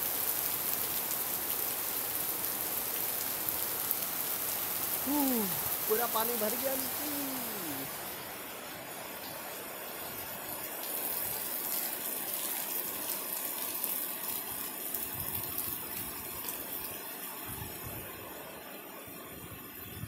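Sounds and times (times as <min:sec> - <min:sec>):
heavy rain pouring: 0:00.0 - 0:19.8.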